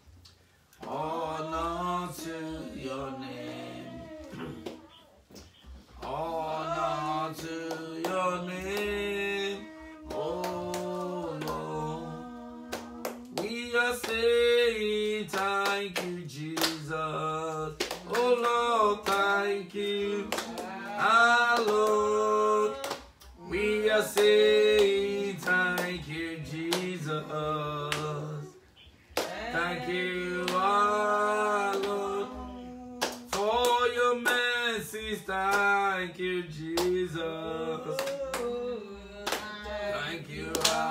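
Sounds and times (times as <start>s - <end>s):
man singing unaccompanied: 6.0s - 28.7s, 29.3s - 40.9s.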